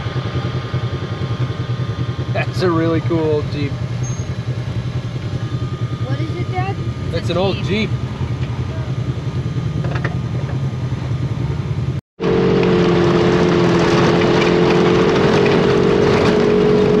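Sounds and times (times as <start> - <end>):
vehicle engine running: 0.0 - 17.0
wind and road noise: 0.0 - 17.0.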